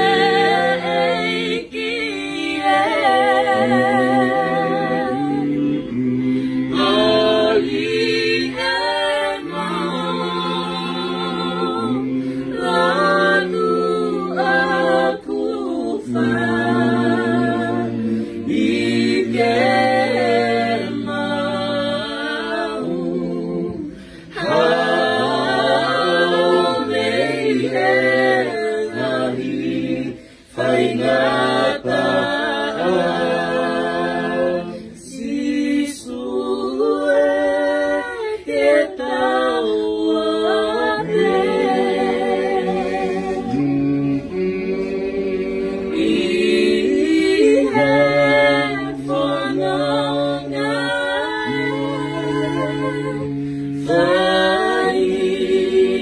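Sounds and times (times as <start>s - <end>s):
group singing a hymn: 0.0s - 56.0s.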